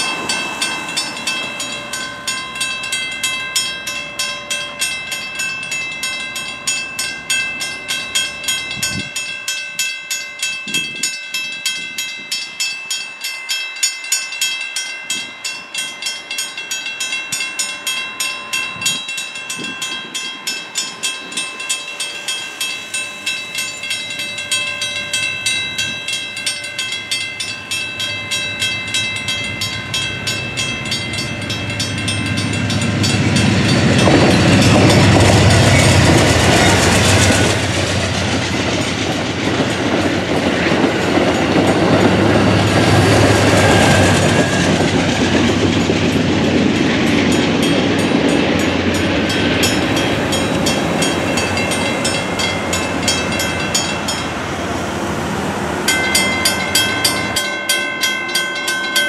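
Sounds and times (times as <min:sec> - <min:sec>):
crossing warning bell ringing: 0:00.0 - 0:59.0
train passing on rails: 0:00.0 - 0:59.0.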